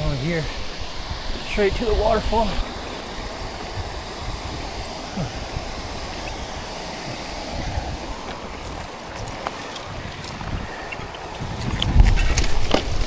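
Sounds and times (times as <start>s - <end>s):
wind on microphone: 0.7s - 13.0s
bike tyres on dirt trail: 1.1s - 13.0s
light rattles: 1.4s - 13.0s.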